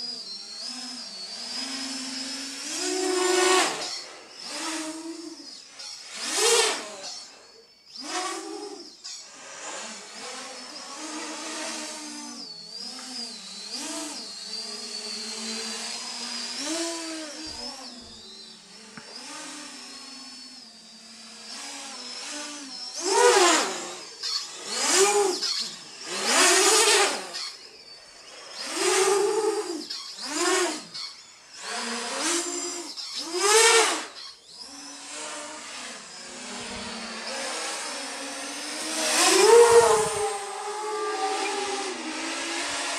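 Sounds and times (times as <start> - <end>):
quadcopter motors whining: 0.0 - 42.9.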